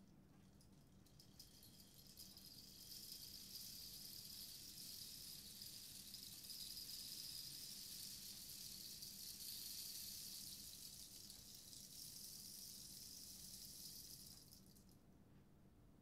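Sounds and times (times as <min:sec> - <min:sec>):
rain stick grains trickling: 0:01.0 - 0:14.8.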